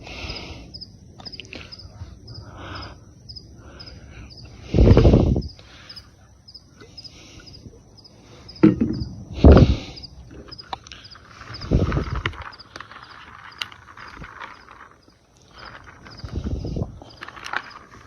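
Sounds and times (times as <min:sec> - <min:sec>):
outdoor ambience: 0:00.0 - 0:18.0.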